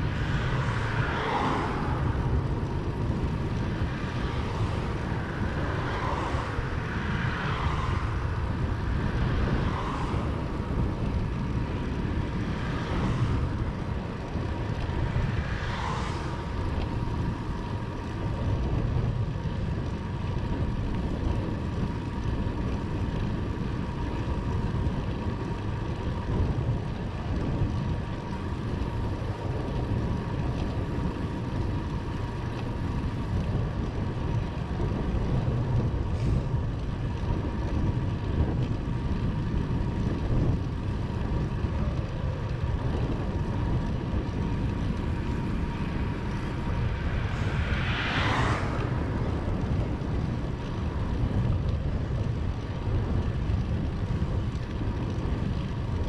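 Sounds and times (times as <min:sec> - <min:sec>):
bicycle road noise: 0:00.0 - 0:56.0
wind buffeting microphone: 0:00.0 - 0:56.0.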